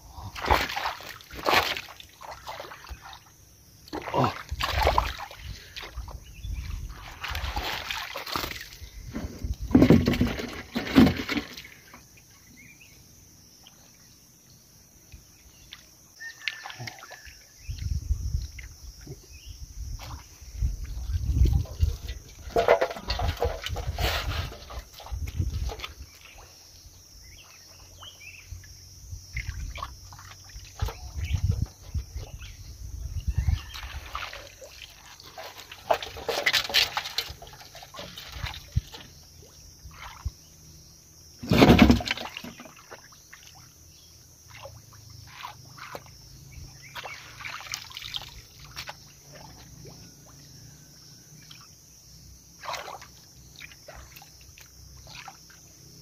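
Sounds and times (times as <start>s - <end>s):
water sloshing and splashing: 0.1s - 12.5s, 15.2s - 56.0s.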